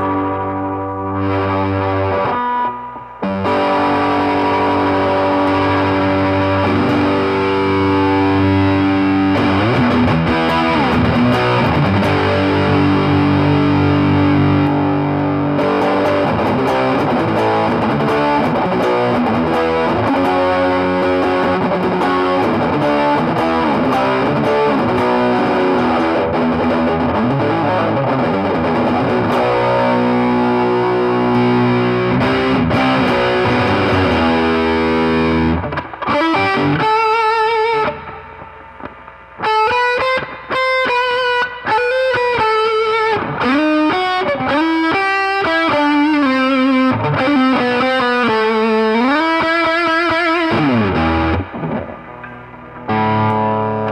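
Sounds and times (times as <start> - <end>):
distorted electric guitar: 0.0 - 53.9.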